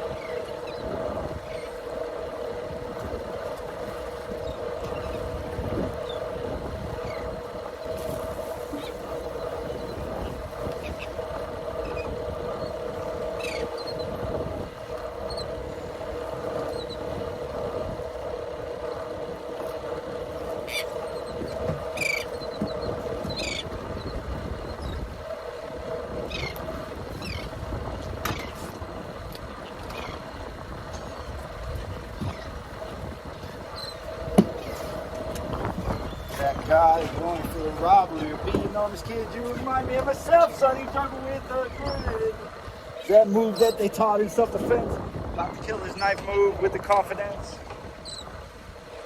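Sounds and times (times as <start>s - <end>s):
boat mechanical hum: 0.0s - 49.0s
water wash: 0.0s - 49.0s
wind: 0.0s - 49.0s.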